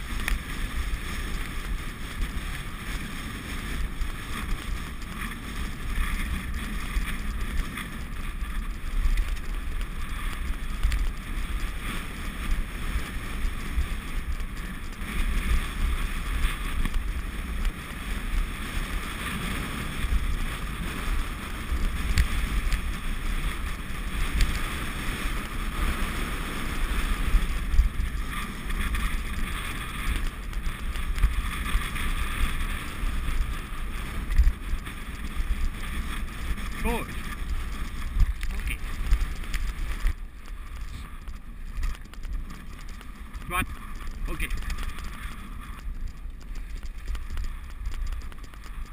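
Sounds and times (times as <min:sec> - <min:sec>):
travel noise on dirt track: 0:00.0 - 0:48.9
wind buffeting microphone: 0:00.0 - 0:48.9.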